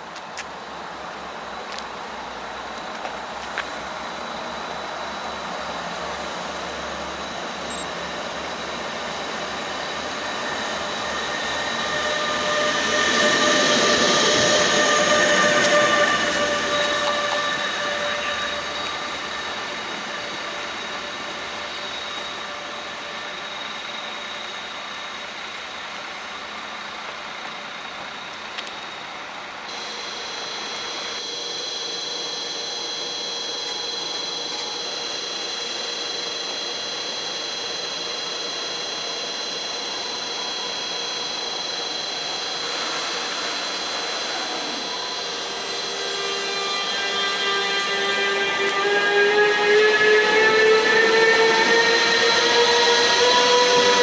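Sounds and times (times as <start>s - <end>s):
electric locomotive whining: 0.0s - 54.0s.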